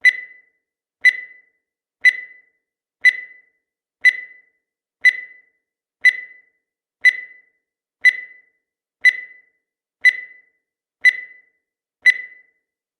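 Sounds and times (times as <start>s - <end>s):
short electronic beeps: 0.0s - 12.6s.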